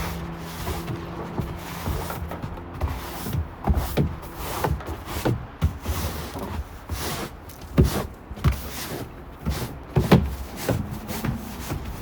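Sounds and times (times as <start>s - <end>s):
footsteps in snow: 0.0s - 12.0s.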